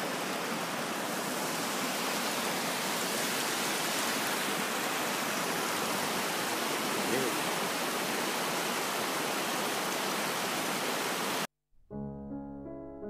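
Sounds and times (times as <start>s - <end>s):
stream rushing over rocks: 0.0s - 11.5s.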